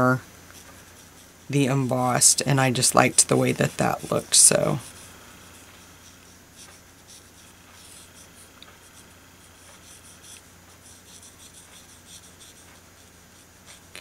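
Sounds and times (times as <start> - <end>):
marker scratching on paper: 0.6 - 14.0.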